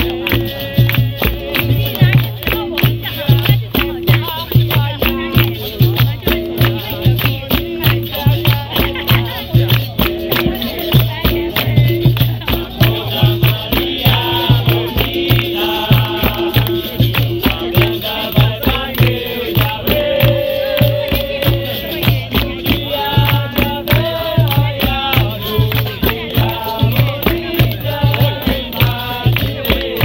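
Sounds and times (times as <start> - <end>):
hand drums: 0.0 - 30.0
shaker rattle: 0.0 - 30.0
voices singing: 0.0 - 30.0.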